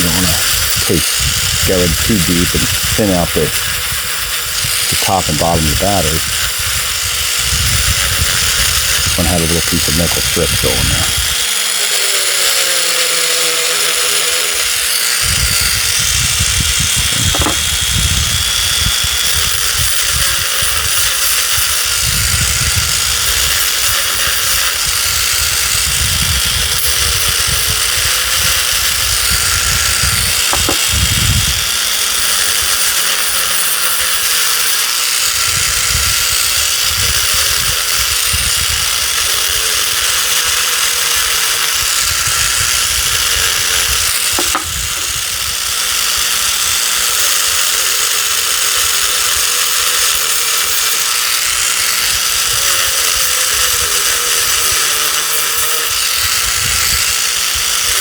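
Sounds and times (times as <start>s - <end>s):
grinding on metal: 0.0s - 58.0s
rotary tool whining: 0.0s - 58.0s.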